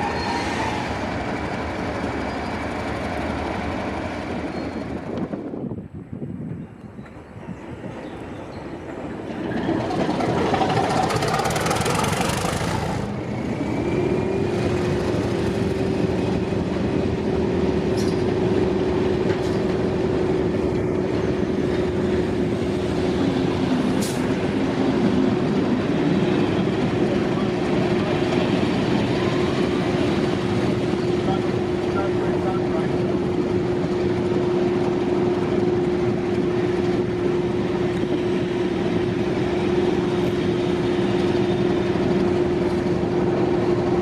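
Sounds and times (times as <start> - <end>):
train engine and rail rush: 0.0 - 44.0.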